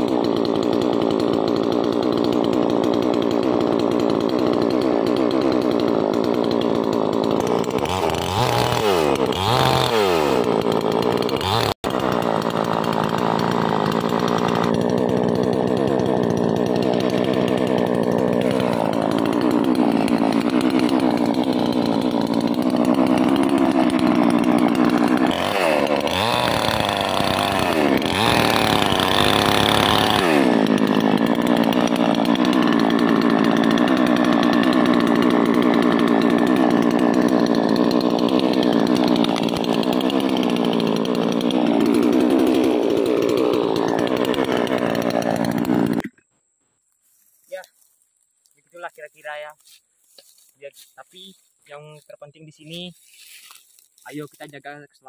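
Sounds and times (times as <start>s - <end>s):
chainsaw cutting tree trunk: 0.0s - 54.6s.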